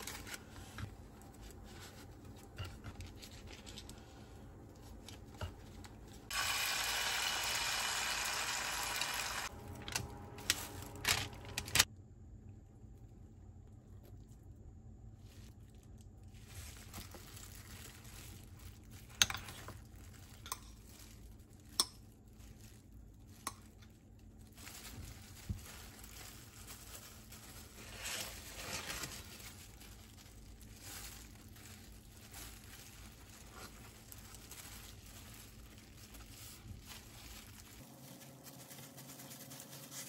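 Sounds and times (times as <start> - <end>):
soft rustling and crinkling: 0.0 - 6.3, 9.5 - 11.9, 12.7 - 40.0.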